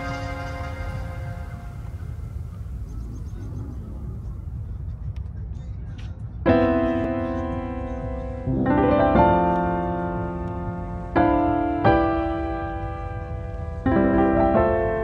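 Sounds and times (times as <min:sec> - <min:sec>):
piano chords: 0:00.0 - 0:03.6, 0:06.5 - 0:15.0.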